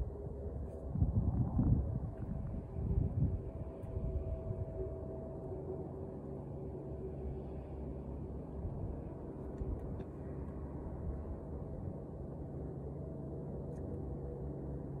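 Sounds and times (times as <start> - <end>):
faint hum tones: 0.0 - 15.0
steady low rumble: 0.0 - 15.0.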